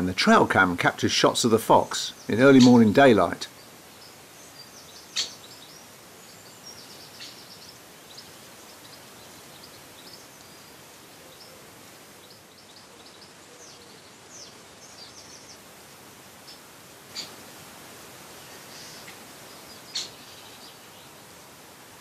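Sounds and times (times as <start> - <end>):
birds chirping: 0.0 - 15.7, 16.3 - 17.4, 18.3 - 21.4
microphone hiss: 0.0 - 22.0.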